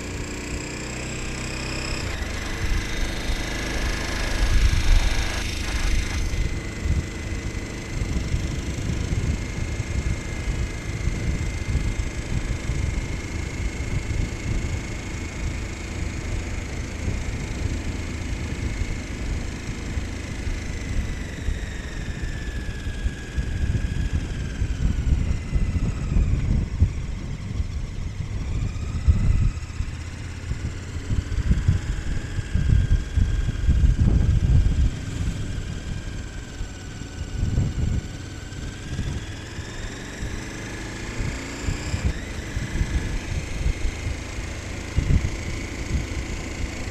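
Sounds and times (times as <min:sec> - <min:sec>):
motorcycle engine under way: 0:00.0 - 0:46.9.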